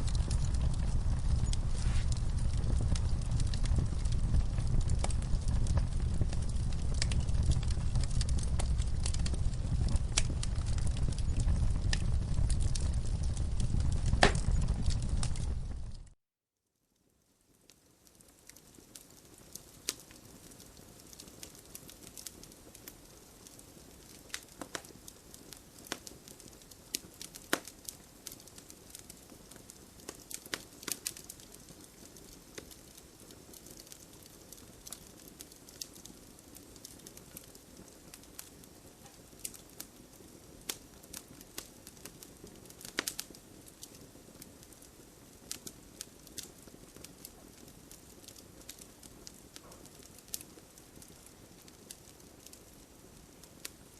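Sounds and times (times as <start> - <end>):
fire crackling: 0.0 - 16.2, 17.0 - 53.9.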